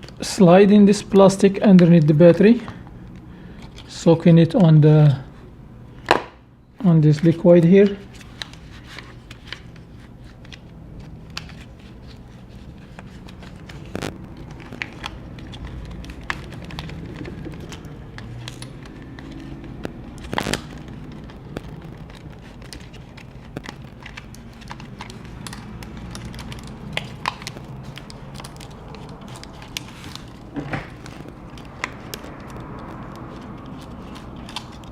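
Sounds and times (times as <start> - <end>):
low steady hum: 0.0 - 34.9
plastic card scraping and crackling: 6.9 - 34.9.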